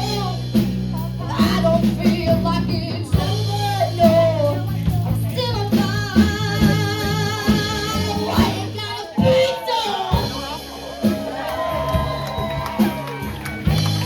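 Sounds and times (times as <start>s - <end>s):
live band with singing: 0.0s - 14.0s.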